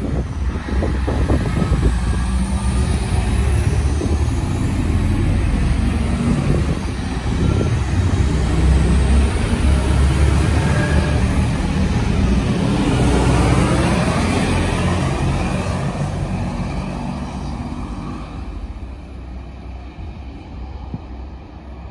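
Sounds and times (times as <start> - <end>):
diesel train rumbling past: 0.0 - 21.9.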